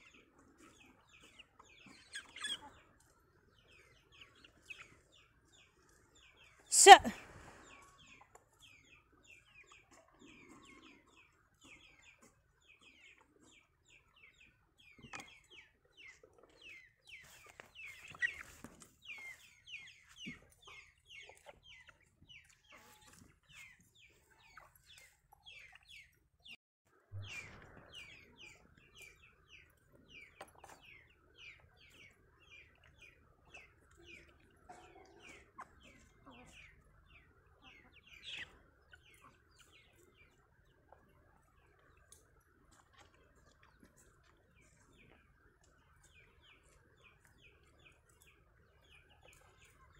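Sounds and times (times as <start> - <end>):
chicks peeping: 0.0 - 26.6, 27.3 - 49.9.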